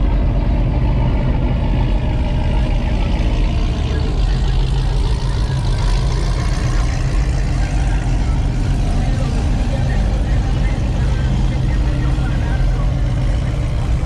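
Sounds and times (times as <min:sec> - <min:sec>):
background voices: 0:00.0 - 0:14.0
vehicle engine rumbling: 0:00.0 - 0:14.0.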